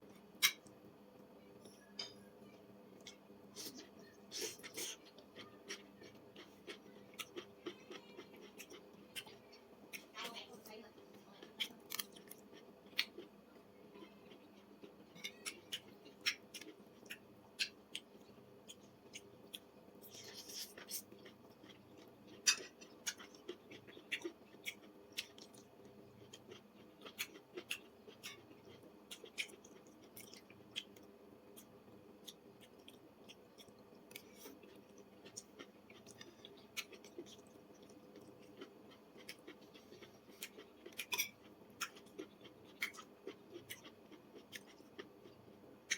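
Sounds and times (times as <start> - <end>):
person chewing crunchy food: 3.0 - 10.1, 11.6 - 13.4, 14.2 - 45.9.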